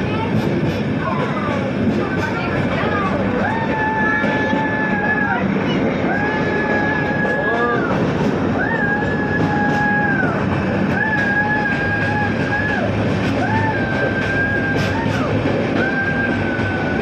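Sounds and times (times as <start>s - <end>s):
passenger train running hum: 0.0s - 17.0s.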